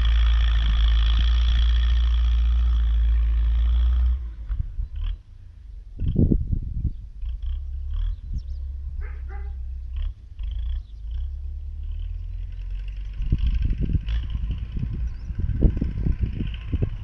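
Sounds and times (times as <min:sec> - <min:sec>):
distant tractor diesel engine: 0:00.0 - 0:17.0
wind rumbling on microphone: 0:00.0 - 0:17.0.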